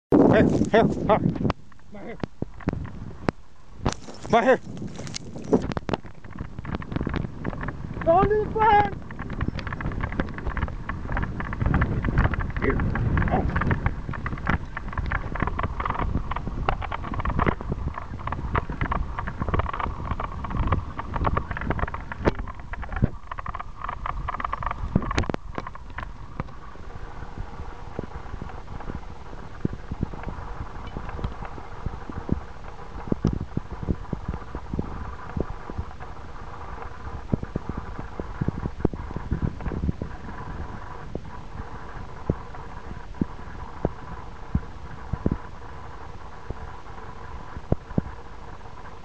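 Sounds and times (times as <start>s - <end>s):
wind buffeting microphone: 0.1s - 49.0s
horse hoofbeats and tack clicking: 3.8s - 49.0s.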